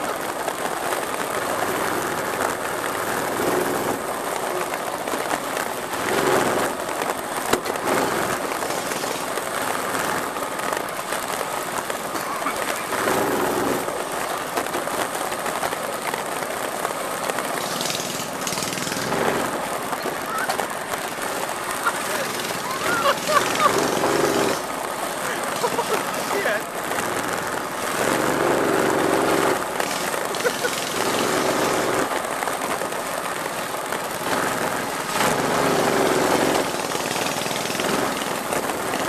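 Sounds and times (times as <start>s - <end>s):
minibike engine revving: 0.0s - 15.7s, 16.3s - 39.0s.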